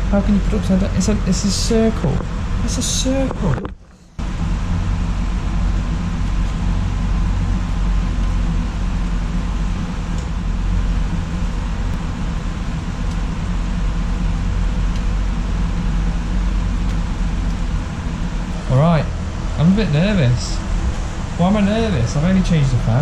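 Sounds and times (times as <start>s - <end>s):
computer fans whirring: 0.0s - 23.0s.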